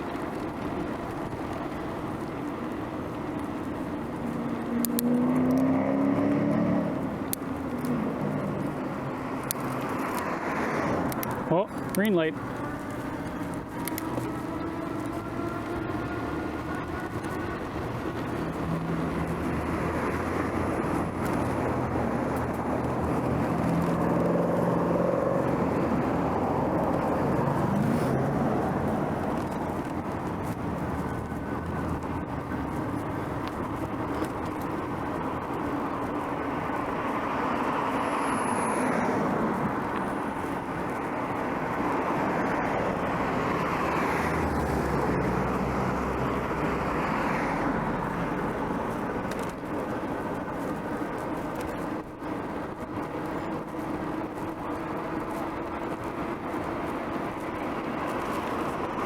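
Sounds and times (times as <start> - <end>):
hum of road traffic: 0.0 - 59.0
vehicles passing close by: 0.0 - 59.0.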